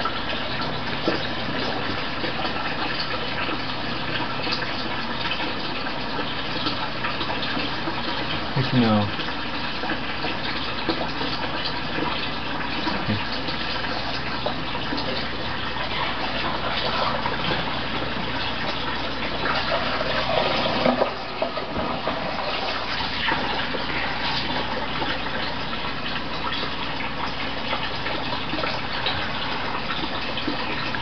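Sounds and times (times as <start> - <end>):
water gushing and splashing: 0.0 - 31.0.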